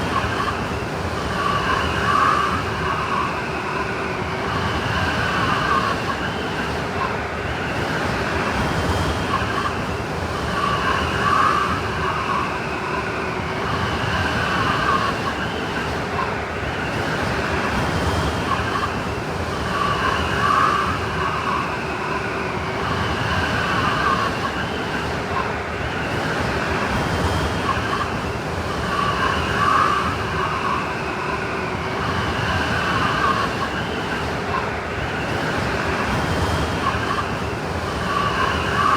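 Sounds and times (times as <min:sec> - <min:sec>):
howling blizzard wind: 0:00.0 - 0:38.9.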